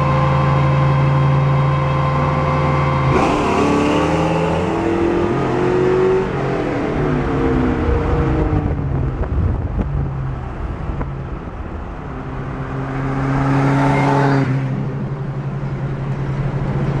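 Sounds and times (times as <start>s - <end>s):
car engine cruising: 0.0s - 17.0s
tyre and road noise: 0.0s - 17.0s.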